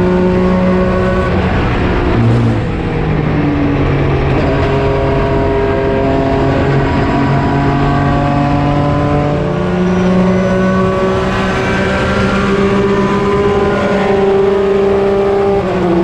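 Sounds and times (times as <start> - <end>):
racing engine running hard: 0.0 - 16.0.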